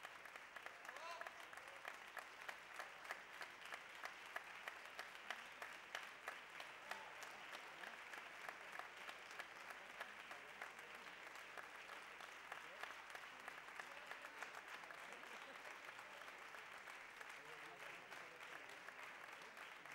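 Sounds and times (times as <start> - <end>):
audience applauding: 0.0 - 19.9.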